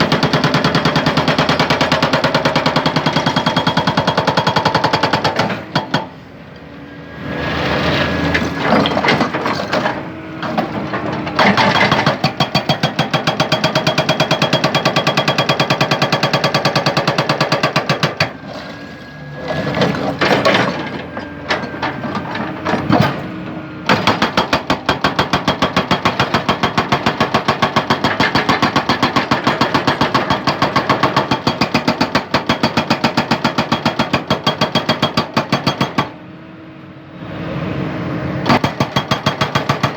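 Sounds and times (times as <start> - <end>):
hydraulic breaker hammering rock: 0.0 - 6.2, 8.4 - 18.8, 19.4 - 36.2, 38.4 - 39.9.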